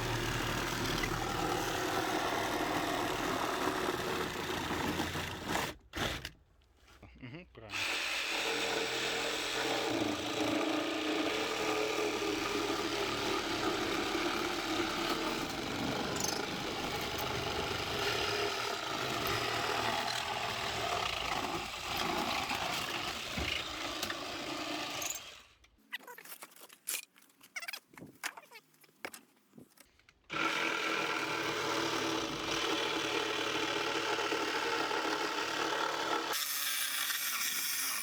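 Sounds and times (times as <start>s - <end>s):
reciprocating saw cutting: 0.0s - 6.3s, 7.7s - 25.6s, 30.3s - 38.0s.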